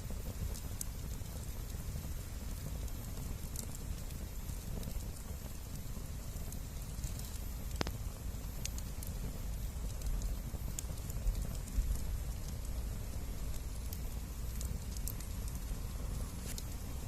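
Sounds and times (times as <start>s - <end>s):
bonfire crackling: 0.0s - 17.0s
fire popping and snapping: 0.0s - 17.0s.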